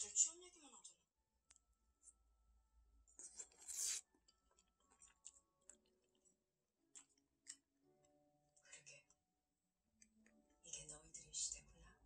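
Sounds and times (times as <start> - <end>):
faint quiet music: 0.0 - 12.0.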